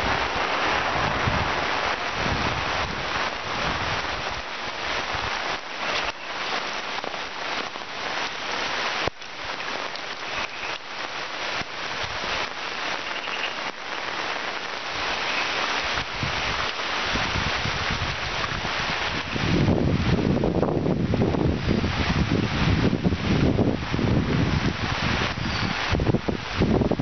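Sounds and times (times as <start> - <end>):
rain on foliage: 0.0 - 27.0.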